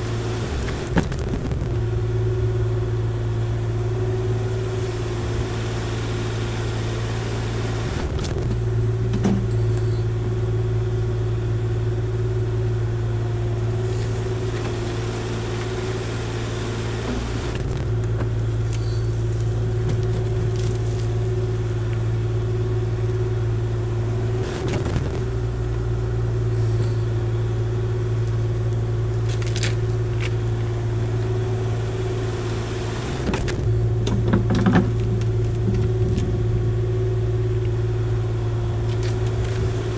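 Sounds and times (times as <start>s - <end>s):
excavator engine and mulcher running: 0.0s - 39.9s.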